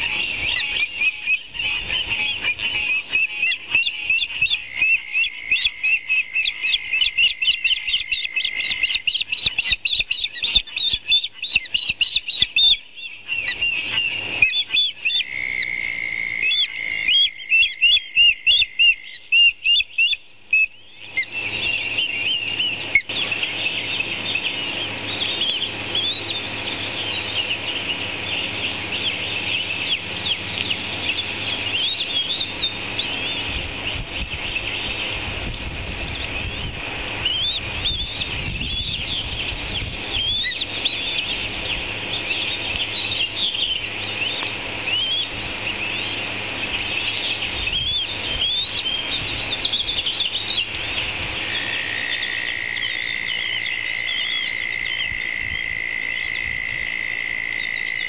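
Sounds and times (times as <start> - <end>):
ospreys chirping: 0.0 - 35.3, 36.0 - 58.0.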